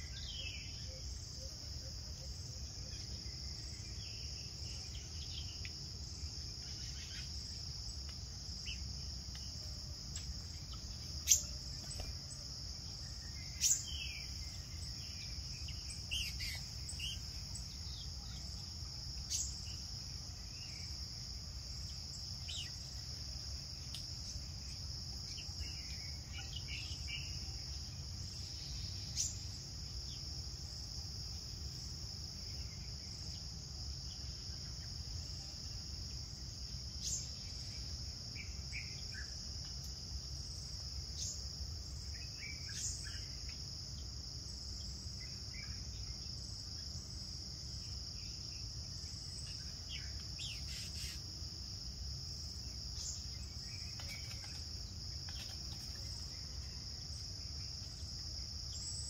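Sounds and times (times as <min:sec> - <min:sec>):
chorus of forest insects: 0:00.0 - 0:59.0.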